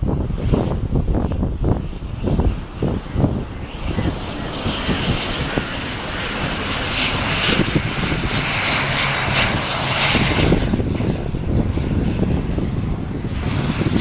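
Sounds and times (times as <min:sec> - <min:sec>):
turboprop engines whining drone: 0:00.0 - 0:14.0.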